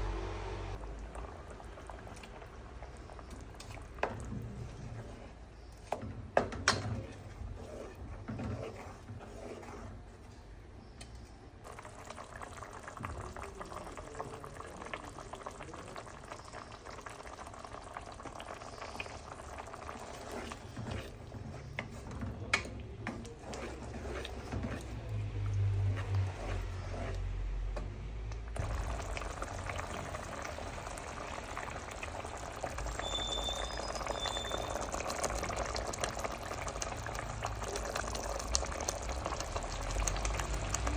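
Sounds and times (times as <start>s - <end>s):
curry bubbling and sizzling in pot: 0.1s - 40.9s.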